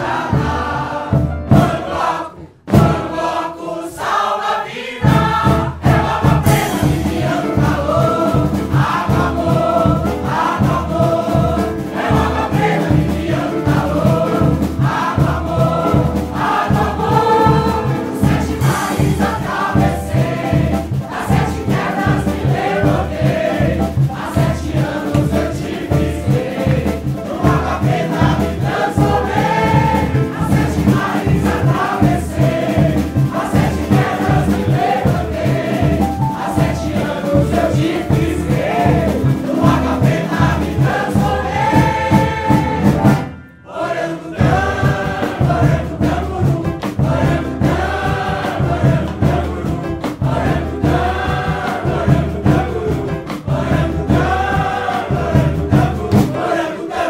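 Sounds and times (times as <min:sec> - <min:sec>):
steady drum beat: 0:00.0 - 0:43.4, 0:44.3 - 0:57.0
mixed chorus singing: 0:00.0 - 0:57.0.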